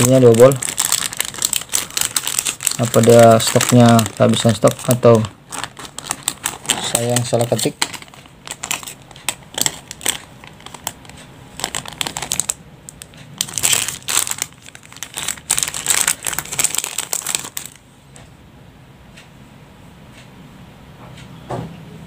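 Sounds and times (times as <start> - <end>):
plastic bags crinkling: 0.0 - 17.8.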